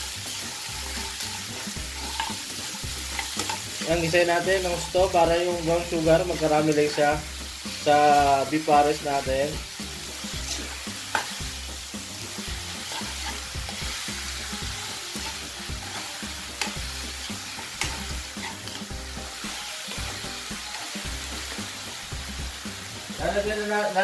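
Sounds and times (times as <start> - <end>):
metal spoon scraping a pan: 0.0 - 7.7, 9.7 - 21.6
meat sizzling in a wok: 0.0 - 24.0.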